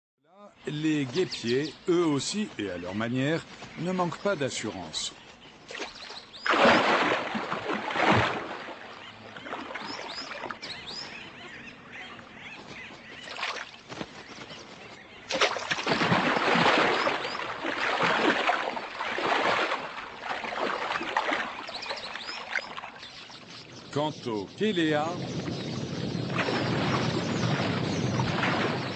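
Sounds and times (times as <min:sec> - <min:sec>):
birds chirping: 0:00.2 - 0:28.9
water splashing: 0:00.7 - 0:12.3, 0:13.0 - 0:14.2, 0:15.2 - 0:23.8, 0:26.2 - 0:28.9.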